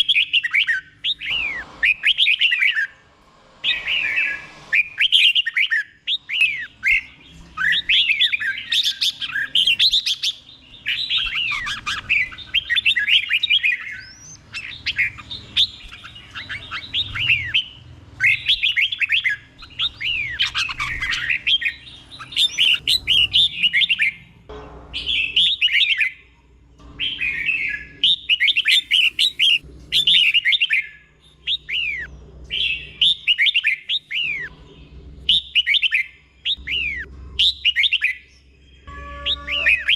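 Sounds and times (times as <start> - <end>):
bulbul singing whistled notes: 3.6 - 24.2, 27.0 - 34.6, 35.3 - 39.9.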